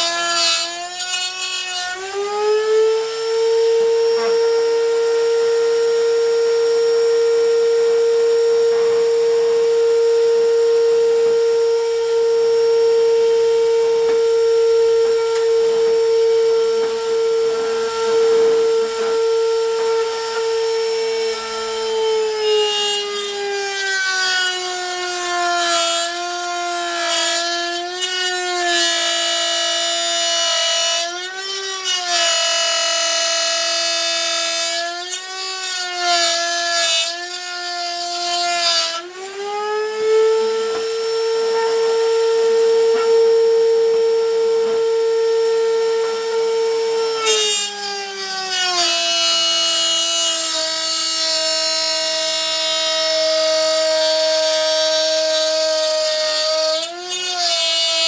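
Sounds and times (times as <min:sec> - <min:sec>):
router whining while cutting wood: 0:00.0 - 0:58.0.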